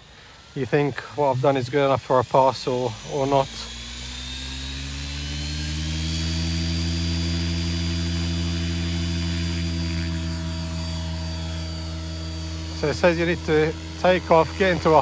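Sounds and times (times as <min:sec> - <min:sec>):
helicopter rotor and motor hum: 0:00.0 - 0:15.0
high motor whine: 0:00.0 - 0:15.0.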